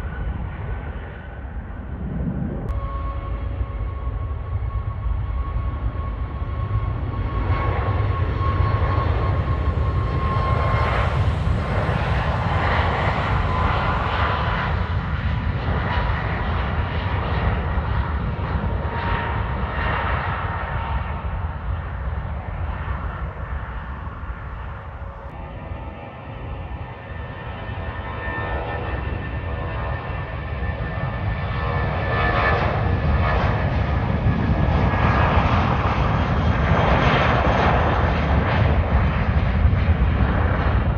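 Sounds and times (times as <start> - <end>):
airliner engines rumbling and whining: 0.0 - 40.9.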